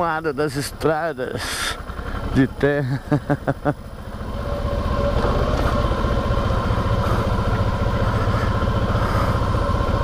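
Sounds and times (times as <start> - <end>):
motorcycle engine braking: 0.0 - 10.0.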